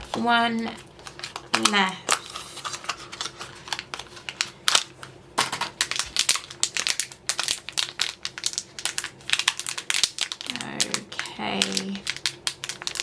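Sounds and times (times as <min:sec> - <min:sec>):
packaging tearing and crinkling: 0:01.0 - 0:13.0.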